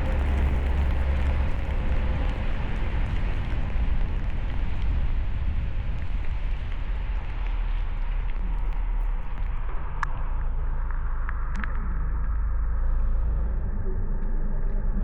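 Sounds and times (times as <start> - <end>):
tyre and road noise: 0.0 - 13.3
low rumble: 0.0 - 15.0.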